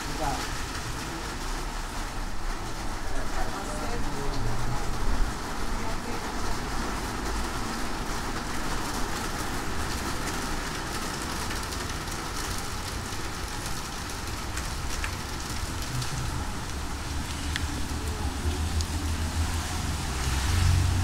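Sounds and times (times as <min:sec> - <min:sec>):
rain: 0:00.0 - 0:21.0
road and wind rumble: 0:00.0 - 0:21.0.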